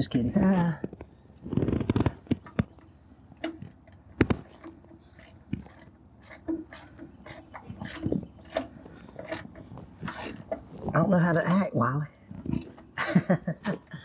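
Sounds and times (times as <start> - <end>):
hand tools clicking and knocking: 0.8 - 11.0, 12.3 - 14.0.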